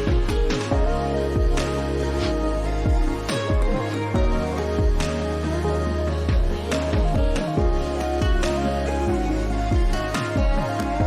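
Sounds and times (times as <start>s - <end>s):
pop music with synth chords: 0.0s - 11.0s.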